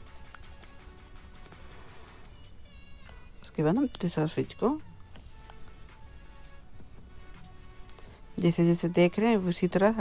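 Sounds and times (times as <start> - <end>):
quiet music of held notes: 0.0 - 10.0.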